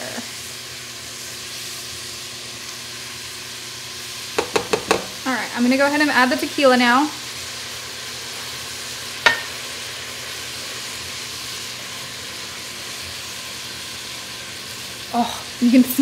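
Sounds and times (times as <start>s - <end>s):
meat and vegetables sizzling: 0.0s - 16.0s.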